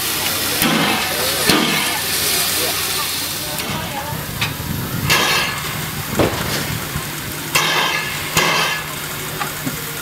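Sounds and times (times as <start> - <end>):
steam locomotive low hum: 0.0 - 10.0
steam puffs and knocks: 0.0 - 10.0.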